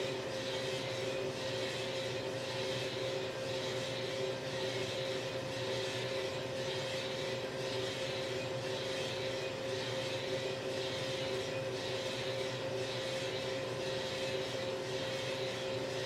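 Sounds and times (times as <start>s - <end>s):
coffee roaster motor hum: 0.0s - 16.0s.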